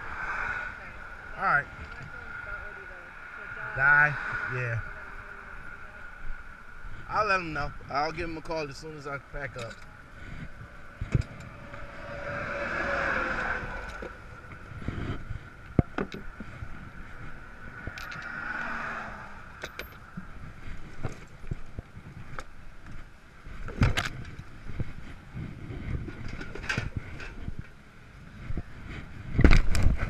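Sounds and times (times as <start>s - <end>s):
vehicles passing by: 0.0s - 30.0s.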